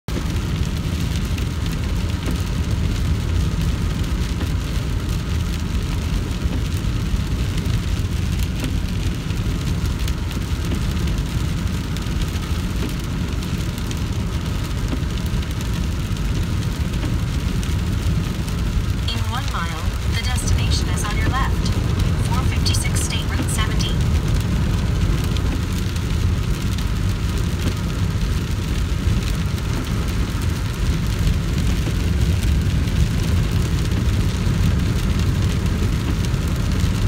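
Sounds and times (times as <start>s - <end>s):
rain spattering on windshield: 0.1s - 37.0s
road rumble inside moving car: 0.1s - 37.0s.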